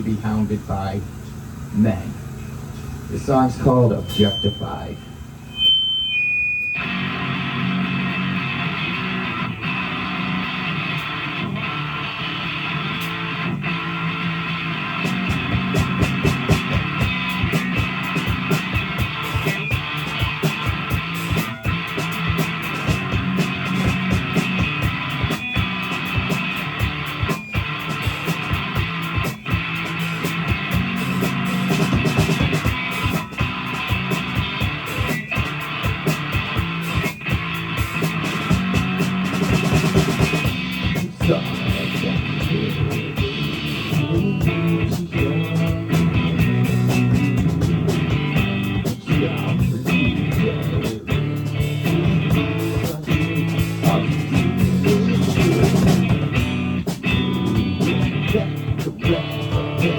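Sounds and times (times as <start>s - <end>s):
drums: 0.0s - 59.9s
electric guitar: 0.0s - 59.9s.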